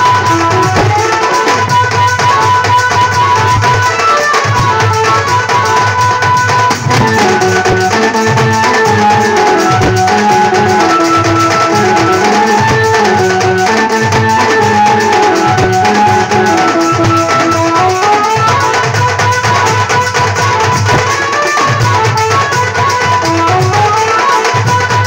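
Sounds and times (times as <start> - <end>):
band drums beating: 0.0 - 25.0
band melody: 0.0 - 25.0.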